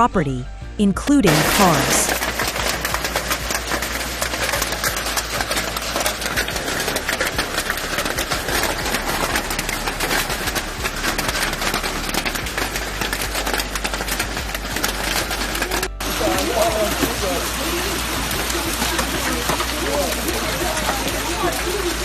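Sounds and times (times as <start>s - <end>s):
hail pelting down: 1.3s - 22.0s.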